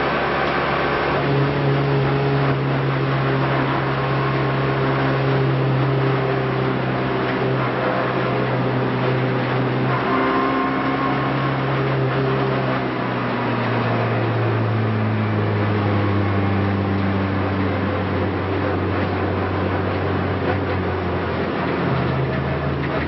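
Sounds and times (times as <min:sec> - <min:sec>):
race car engine running hard: 0:00.0 - 0:23.0.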